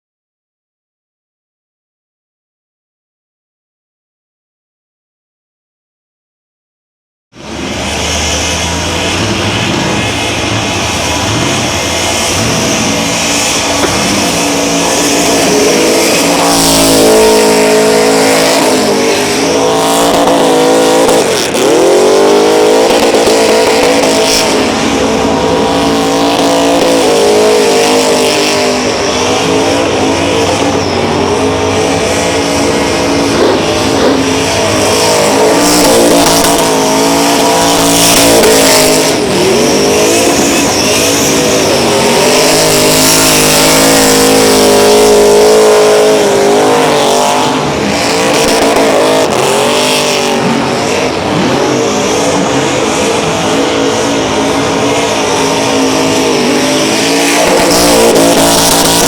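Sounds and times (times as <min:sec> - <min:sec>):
car engine revving high: 0:07.4 - 0:59.0
tyres spinning and squealing: 0:07.6 - 0:59.0.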